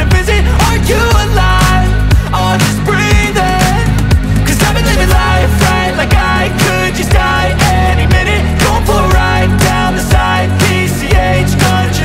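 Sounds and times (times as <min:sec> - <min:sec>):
pop music with drum beat: 0:00.0 - 0:12.0.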